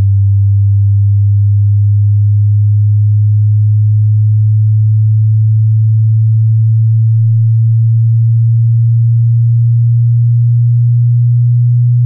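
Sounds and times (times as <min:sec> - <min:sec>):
low sine-wave test tone: 0:00.0 - 0:12.0.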